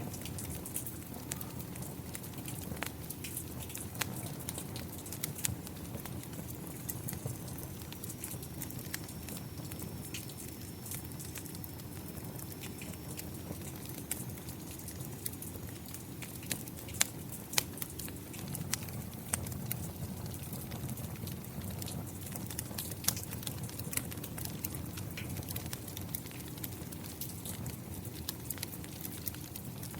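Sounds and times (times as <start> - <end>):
rain rumble: 0.0 - 29.9
wood fire crackling and popping: 0.0 - 29.9.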